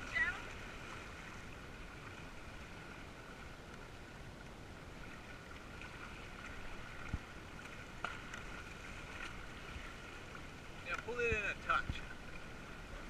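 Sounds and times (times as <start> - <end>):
water rushing along hull: 0.0 - 13.0.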